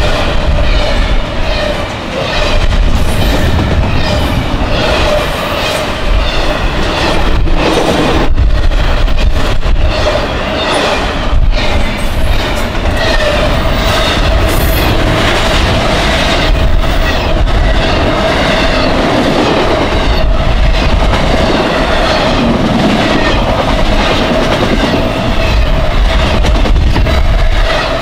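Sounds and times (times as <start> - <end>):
freight train rumbling past: 0.0 - 28.0
train wheels clacking over rails: 0.0 - 28.0.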